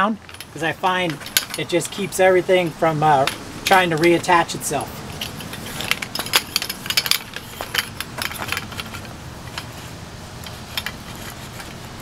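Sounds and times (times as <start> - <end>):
loose poles knocking together: 0.0 - 2.2, 3.0 - 4.4, 5.0 - 11.8
metal poles clicking and clinking: 0.0 - 12.0.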